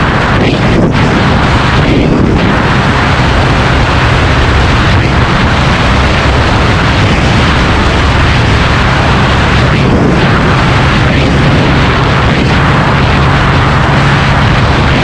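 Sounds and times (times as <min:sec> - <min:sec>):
scooter engine: 0:00.0 - 0:15.0
wind buffeting microphone: 0:00.0 - 0:15.0.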